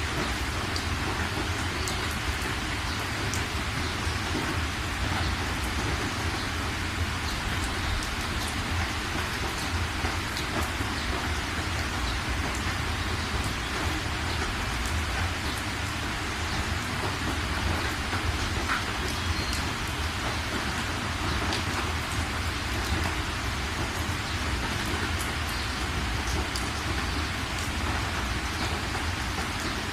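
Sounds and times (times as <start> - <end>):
rain hiss: 0.0 - 29.9.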